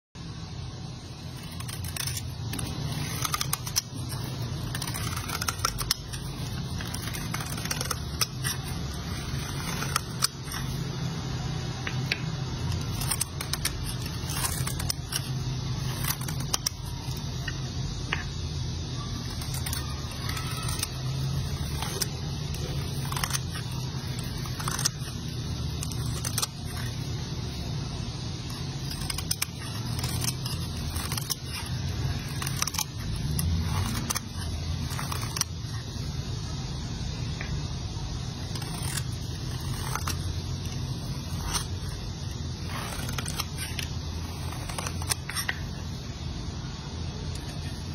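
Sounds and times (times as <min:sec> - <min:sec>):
razor blade slicing soap: 0:01.0 - 0:17.6, 0:19.0 - 0:36.2, 0:38.2 - 0:46.0.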